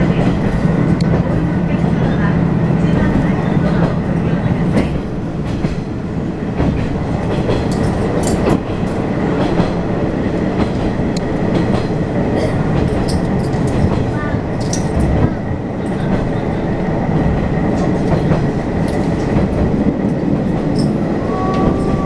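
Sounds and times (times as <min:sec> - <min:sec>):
railcar rumbling: 0:00.0 - 0:22.0.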